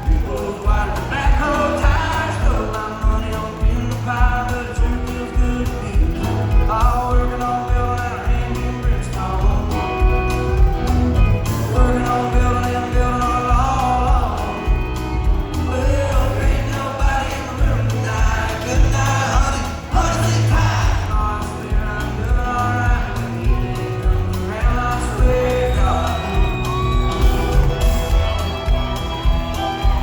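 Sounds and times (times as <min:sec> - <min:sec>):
man singing: 0:00.0 - 0:27.9
country band playing: 0:00.0 - 0:30.0.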